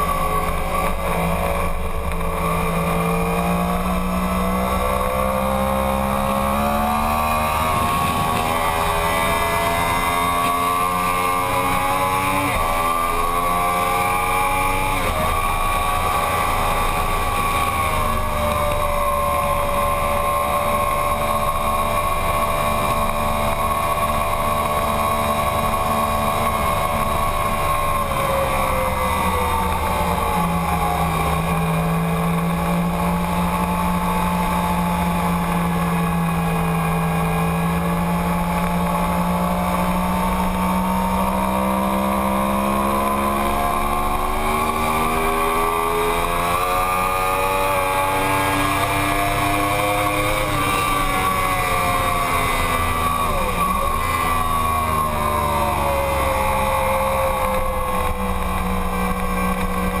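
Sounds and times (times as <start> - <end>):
motorbike engine revving hard: 0.0 - 60.0.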